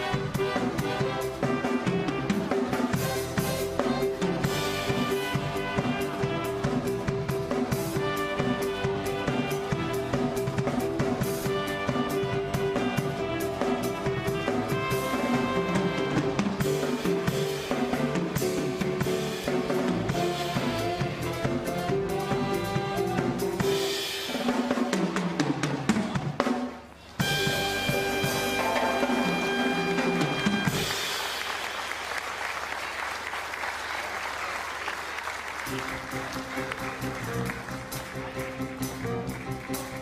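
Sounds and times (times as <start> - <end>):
music with drum kit beat: 0.0 - 31.6, 35.6 - 40.0.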